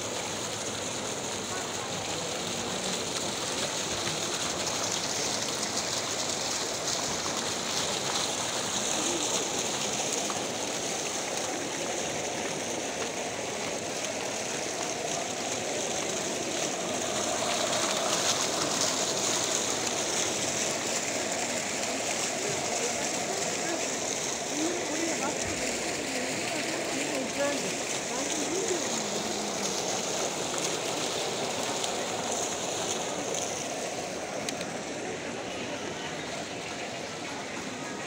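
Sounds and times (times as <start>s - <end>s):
fountain water splashing: 0.0s - 38.0s.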